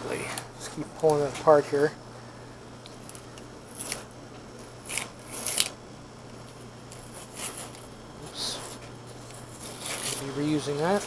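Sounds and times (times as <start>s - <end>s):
tape peeling with crinkling rustles: 0.1s - 1.9s, 2.8s - 11.0s.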